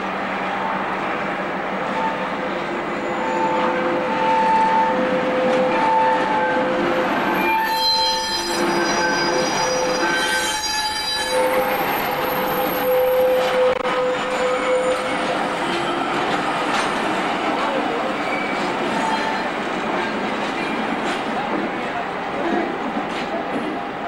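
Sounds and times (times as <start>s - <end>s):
train rolling slowly: 0.0s - 24.0s.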